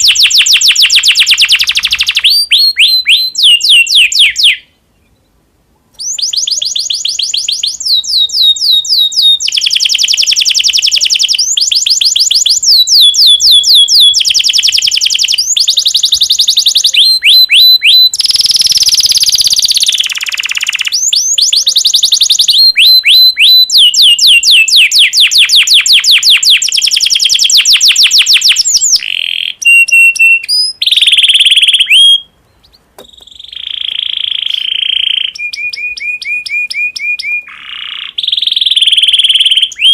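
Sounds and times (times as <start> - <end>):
canary singing trills: 0.0 - 5.4, 6.0 - 39.9.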